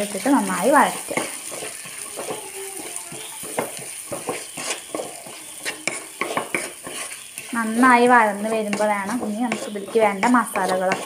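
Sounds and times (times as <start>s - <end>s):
onions sizzling in hot oil: 0.0s - 11.0s
spatula scraping a pan: 0.0s - 11.0s.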